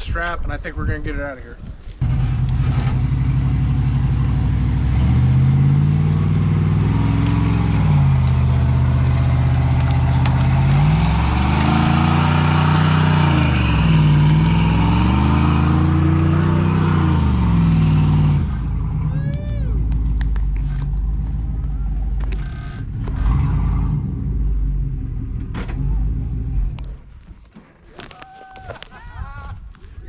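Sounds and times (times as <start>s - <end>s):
truck engine revving under load: 2.0s - 19.1s, 19.8s - 26.9s.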